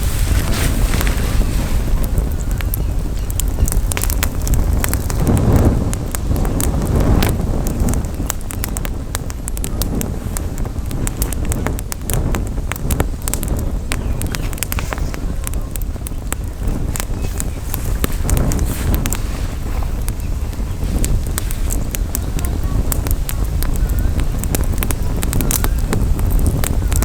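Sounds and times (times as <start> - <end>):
campfire crackling and popping: 0.0 - 27.0
wind buffeting microphone: 0.0 - 27.0.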